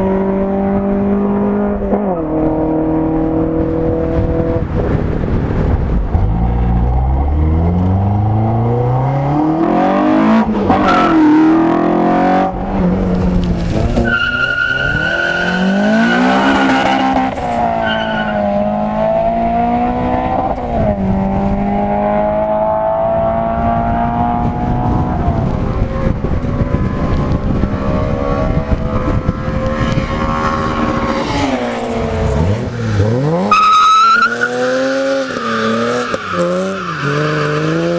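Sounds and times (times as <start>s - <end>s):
car engine revving and accelerating: 0.0s - 37.9s.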